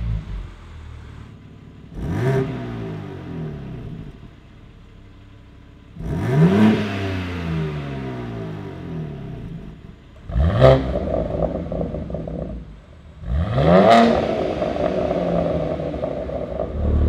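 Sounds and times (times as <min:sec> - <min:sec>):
car engine idling: 0:00.0 - 0:13.4, 0:14.0 - 0:17.0
car engine revving: 0:00.0 - 0:17.0.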